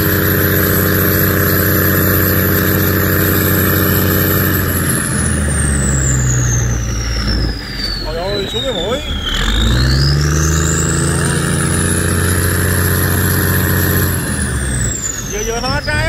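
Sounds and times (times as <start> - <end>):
diesel engine running: 0.0 - 16.0
turbo whine: 0.0 - 16.0.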